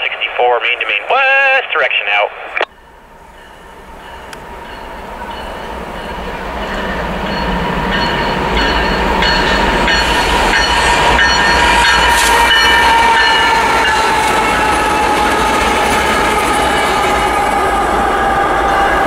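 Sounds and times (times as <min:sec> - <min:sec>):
diesel freight train approaching: 0:00.0 - 0:19.0.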